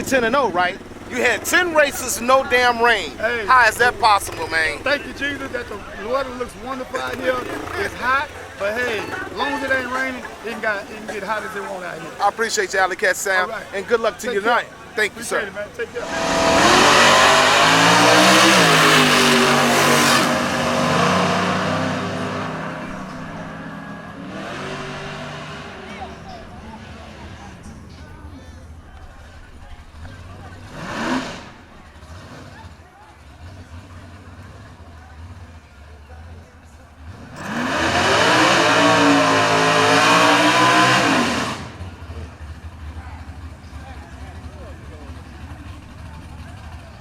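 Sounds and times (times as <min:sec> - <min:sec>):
racing car engine at full throttle: 0:00.0 - 0:12.4, 0:14.7 - 0:47.0.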